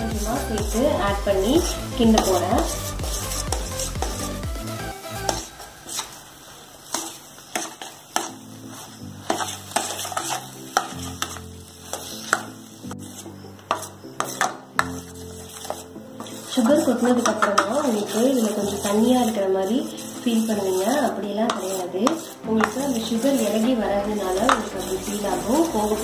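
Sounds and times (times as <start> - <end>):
light sizzle of ghee: 0.0 - 26.0
metal spoon scraping pan: 0.0 - 26.0.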